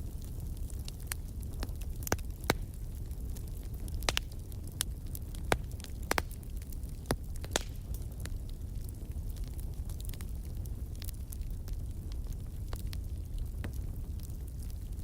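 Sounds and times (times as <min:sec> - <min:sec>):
low rumble of flames: 0:00.0 - 0:15.0
wood fire pops and snaps: 0:00.0 - 0:15.0.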